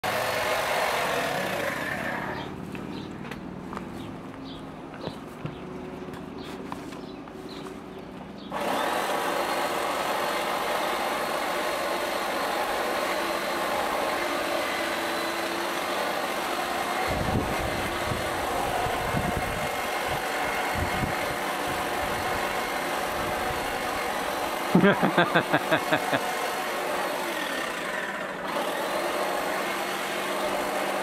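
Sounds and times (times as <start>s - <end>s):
small engine running steadily: 0.0s - 3.4s, 8.2s - 31.0s.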